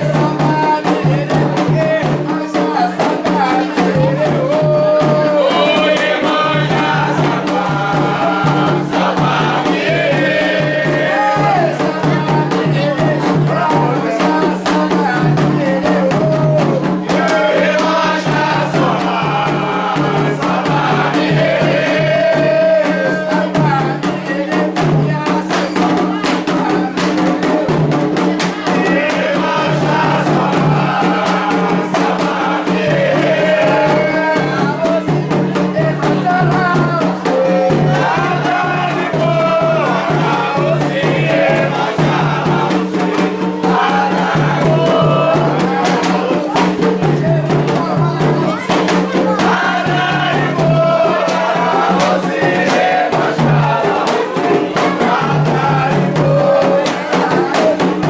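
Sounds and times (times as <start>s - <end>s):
group of voices chanting: 0.0s - 58.0s
percussion with rattles: 0.0s - 58.0s.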